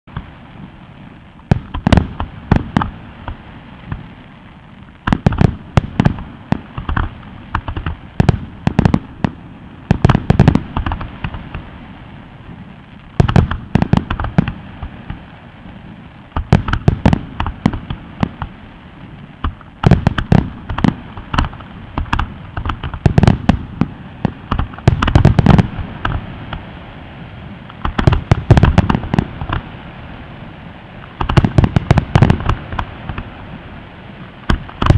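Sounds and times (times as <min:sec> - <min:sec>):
firework bangs: 0:00.1 - 0:34.9.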